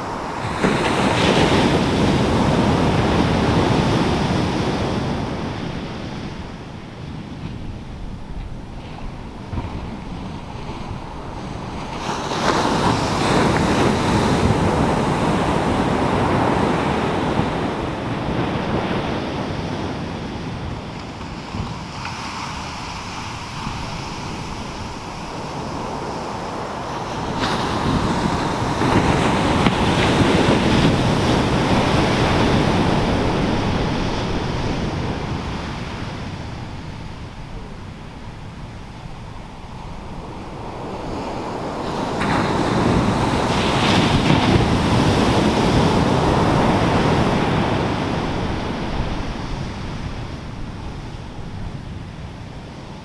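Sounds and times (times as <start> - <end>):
waves breaking on beach: 0.0 - 53.0.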